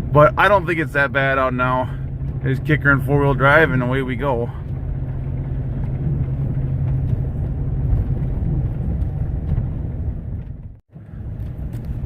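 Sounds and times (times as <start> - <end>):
pickup truck engine drone: 0.0 - 12.0
road noise: 0.0 - 12.0.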